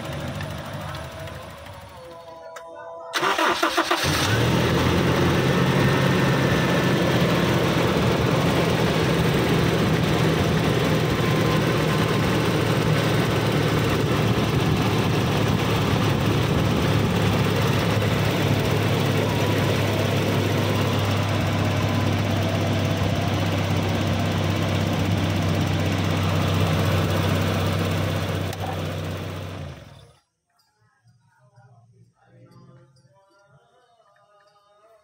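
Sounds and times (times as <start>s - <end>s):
starter cranking engine: 0.0s - 2.3s, 3.2s - 30.0s
car engine idling: 0.0s - 30.1s.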